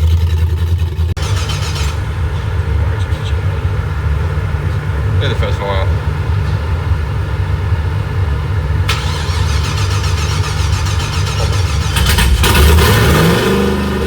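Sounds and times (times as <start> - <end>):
supercharged engine running: 0.0 - 14.0.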